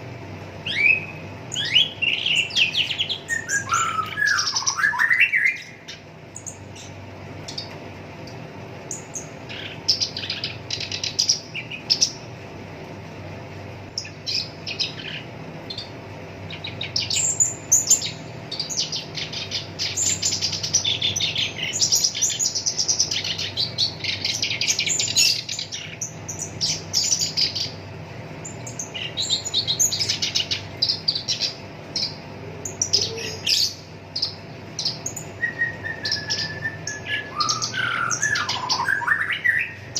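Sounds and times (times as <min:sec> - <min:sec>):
warbler singing harsh chatter: 0:00.0 - 0:12.4, 0:13.4 - 0:39.9
steady low hum: 0:00.0 - 0:39.9.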